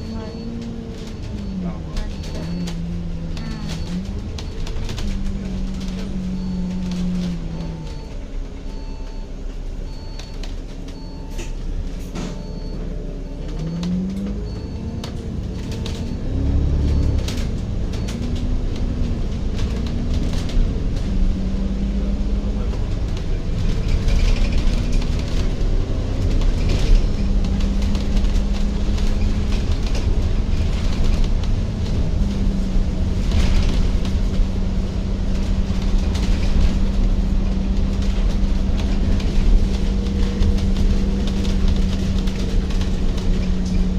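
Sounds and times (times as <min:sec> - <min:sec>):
rumble of running train: 0:00.0 - 0:43.9.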